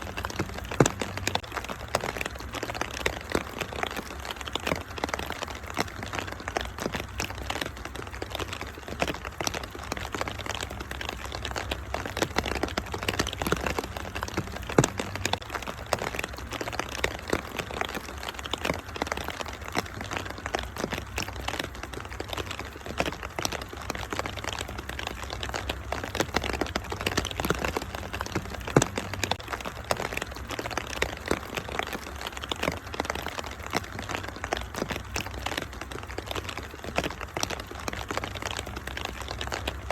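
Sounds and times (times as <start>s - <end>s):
rain hiss: 0.0s - 39.9s
wood fire crackling and popping: 0.0s - 39.9s.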